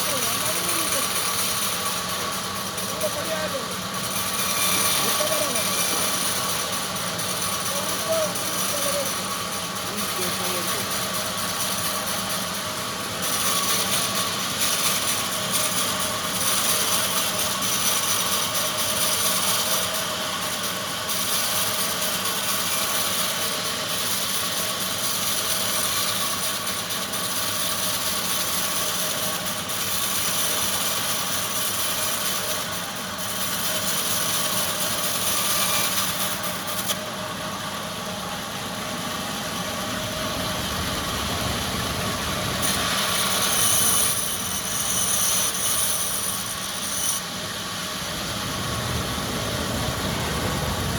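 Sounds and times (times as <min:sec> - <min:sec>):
high hissing of timber cutting: 0:00.0 - 0:50.9
sawmill machinery running: 0:00.0 - 0:50.9.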